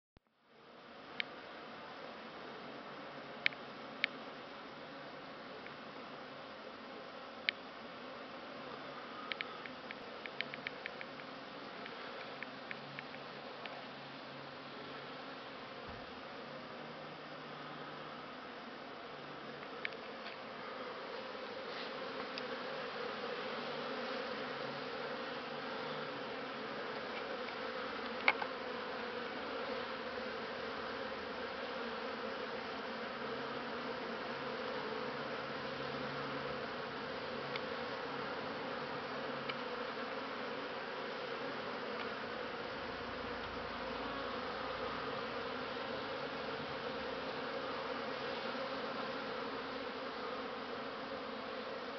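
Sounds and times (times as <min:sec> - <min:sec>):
honeybees buzzing: 0:00.5 - 0:51.9.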